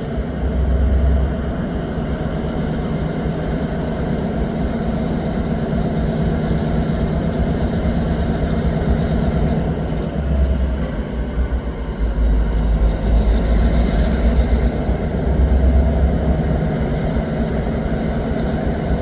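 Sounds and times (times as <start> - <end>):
train engine drone: 0.0 - 19.0.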